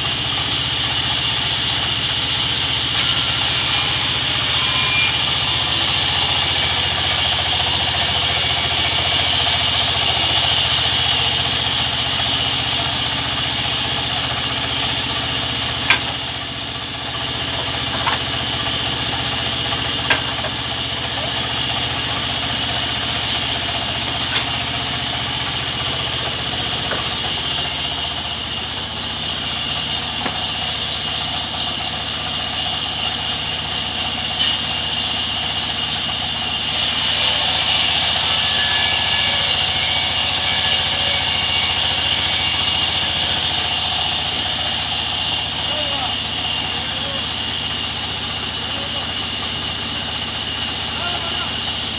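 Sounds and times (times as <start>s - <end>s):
sawmill engine drone: 0.0s - 51.9s.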